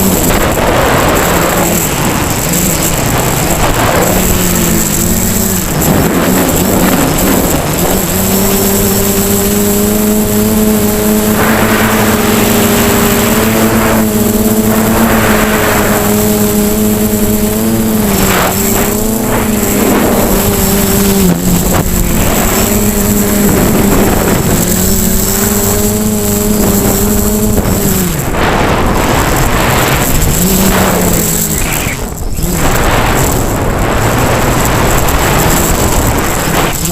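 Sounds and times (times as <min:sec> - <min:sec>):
quadcopter motors whining: 0:00.0 - 0:36.9.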